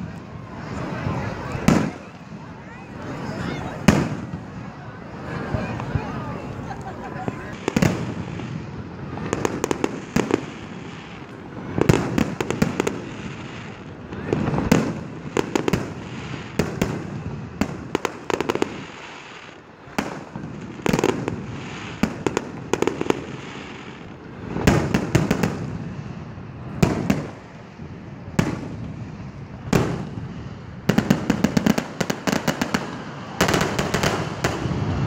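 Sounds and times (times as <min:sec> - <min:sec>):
rapid firework pops and bangs: 0:00.0 - 0:02.4, 0:03.8 - 0:04.6, 0:07.2 - 0:35.0
firework crackle: 0:00.0 - 0:35.0
firework shells booming: 0:03.8 - 0:04.7, 0:07.2 - 0:35.0.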